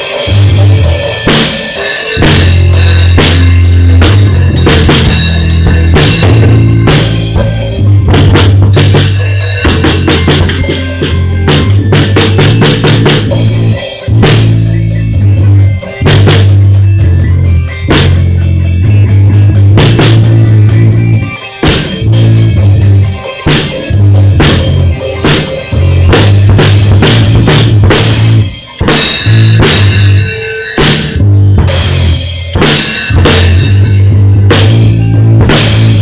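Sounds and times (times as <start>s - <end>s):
bass line: 0.0s - 36.0s
rock band playing live: 0.0s - 36.0s.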